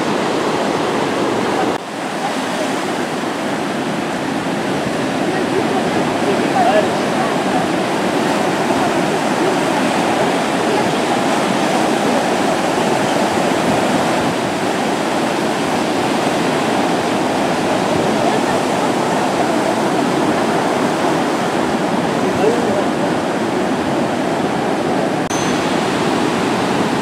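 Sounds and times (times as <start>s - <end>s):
small waves breaking on sand: 0.0s - 27.0s.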